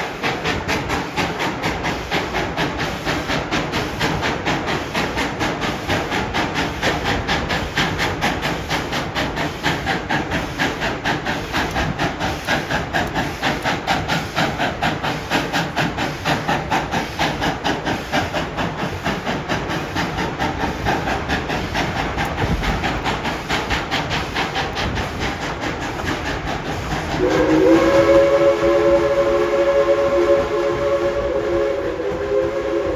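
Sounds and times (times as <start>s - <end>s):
steam locomotive chuffing: 0.0s - 32.9s.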